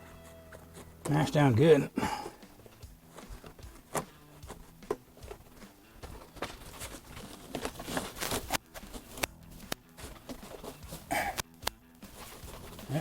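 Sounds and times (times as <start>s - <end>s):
hands clicking and scraping trim: 2.2s - 13.0s.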